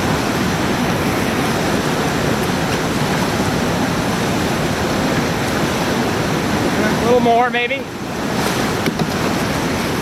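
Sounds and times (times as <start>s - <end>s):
river rushing through rapids: 0.0s - 10.0s.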